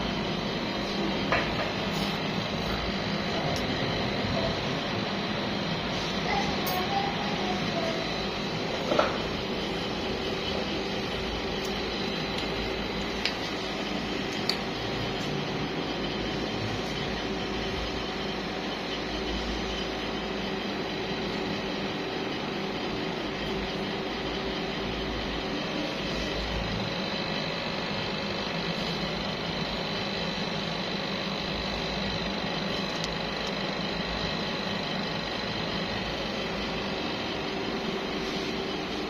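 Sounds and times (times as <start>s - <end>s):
motor humming with high whine: 0.0s - 39.0s.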